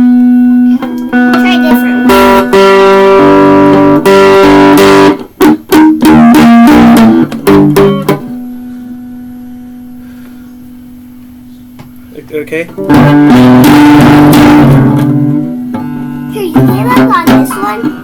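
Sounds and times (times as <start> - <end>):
electric guitar through amplifier: 0.0 - 18.0.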